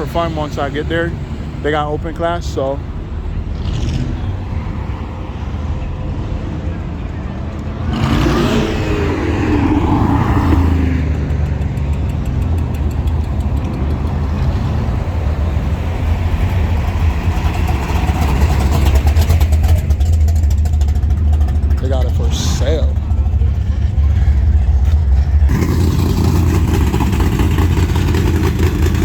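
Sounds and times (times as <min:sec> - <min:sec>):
car engines rumbling: 0:00.0 - 0:29.0
passing car engine: 0:00.0 - 0:29.0.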